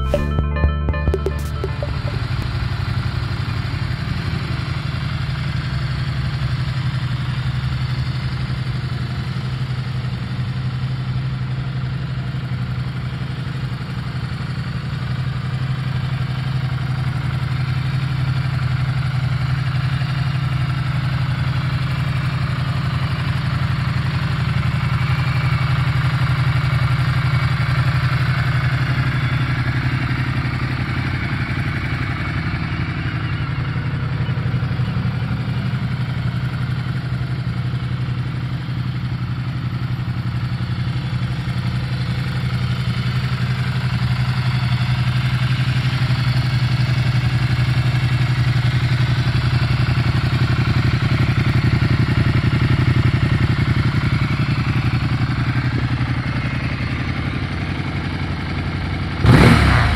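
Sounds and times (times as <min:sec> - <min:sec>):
motorcycle engine idling: 0:01.7 - 0:59.9.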